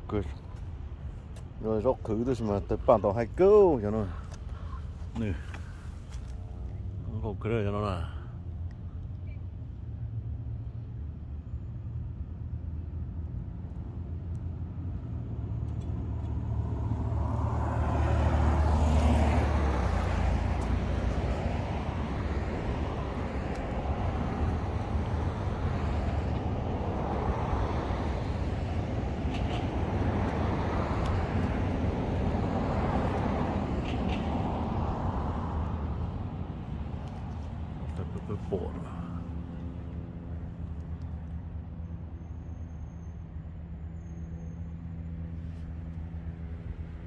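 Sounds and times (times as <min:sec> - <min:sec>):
rushing road or wind noise: 0:00.0 - 0:47.0
vehicle engine humming: 0:00.0 - 0:47.0.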